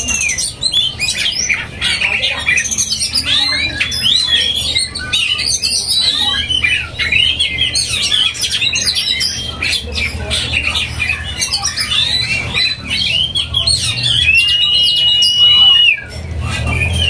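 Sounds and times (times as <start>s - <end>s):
birds singing: 0.0s - 17.0s.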